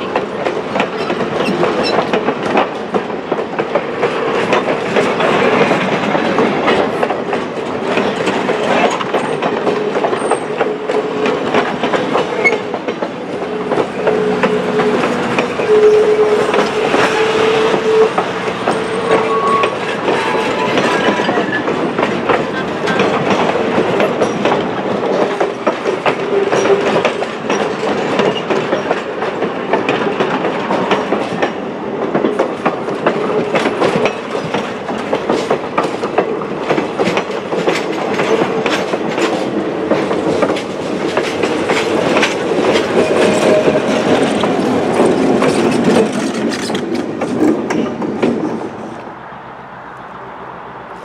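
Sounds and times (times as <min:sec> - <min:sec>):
wheels clicking over rail joints: 0:00.0 - 0:49.2
train wheels rumbling on rail: 0:00.0 - 0:51.0.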